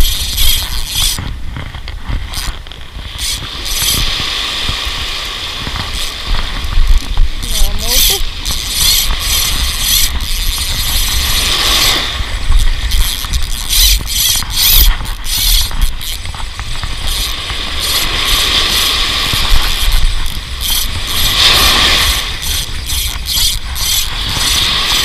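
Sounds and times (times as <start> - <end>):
fishing reel ratcheting whir: 0.0 - 25.0
wind rumble on microphone: 0.0 - 25.0
surf washing in: 2.8 - 13.0, 14.4 - 25.0.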